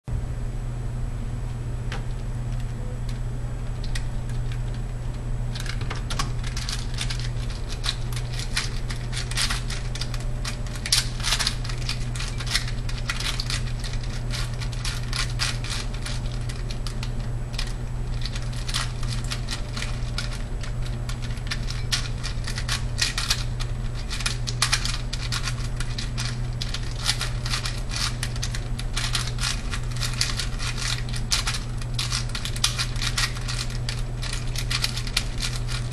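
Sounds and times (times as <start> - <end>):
low hum: 0.1 - 35.9.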